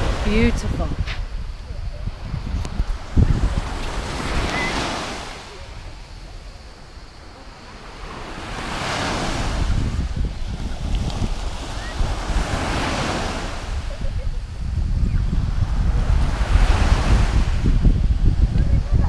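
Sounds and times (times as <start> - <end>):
small waves breaking on shore: 0.0 - 18.5
wind buffeting microphone: 0.0 - 19.0.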